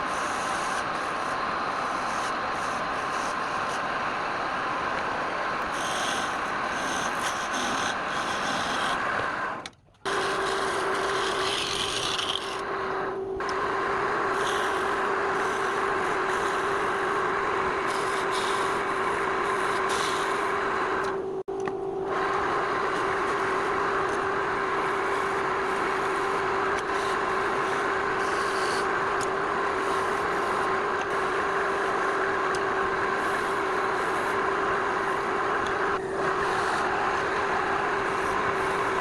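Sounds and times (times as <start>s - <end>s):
turning tool scraping wood: 0.0s - 3.9s, 5.6s - 9.3s, 10.1s - 12.7s, 14.3s - 21.2s, 22.2s - 39.0s
wood lathe humming: 0.0s - 39.0s.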